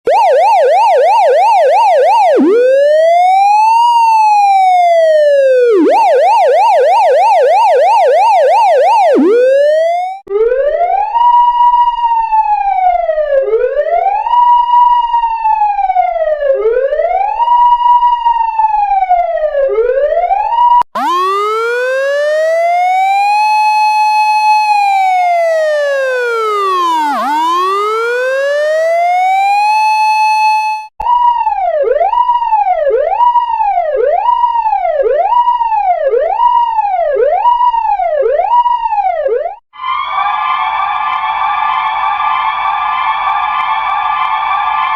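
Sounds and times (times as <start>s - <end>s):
emergency vehicle siren: 0.1s - 44.9s.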